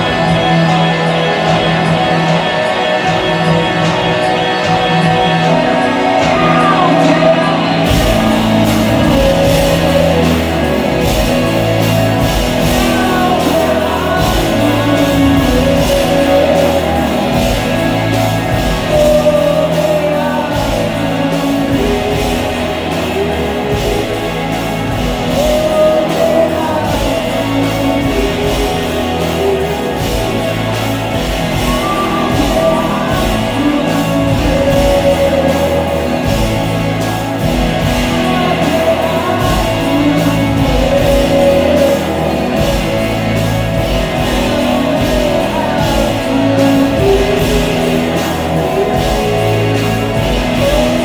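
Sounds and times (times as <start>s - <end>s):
bass and drums: 0.0s - 51.0s
electric guitar: 0.0s - 51.0s
man singing: 0.0s - 51.0s.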